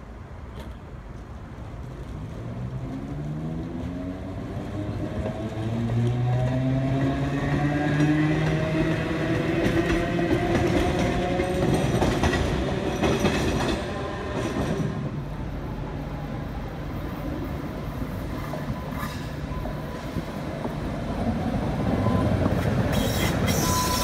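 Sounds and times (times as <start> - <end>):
streetcar motors whining: 1.8 - 24.0.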